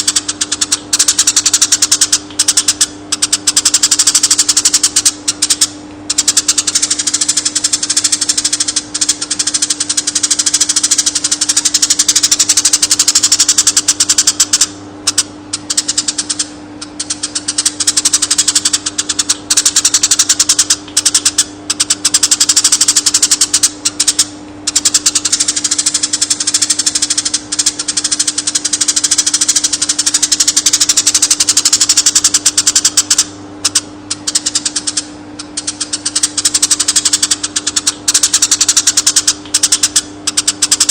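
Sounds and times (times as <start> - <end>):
songbird trilling: 0.0 - 40.9
steady low hum: 0.0 - 40.9.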